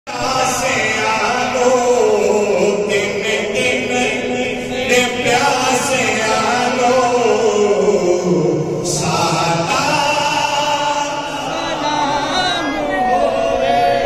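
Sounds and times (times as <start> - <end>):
men chanting unaccompanied: 0.1 - 14.0.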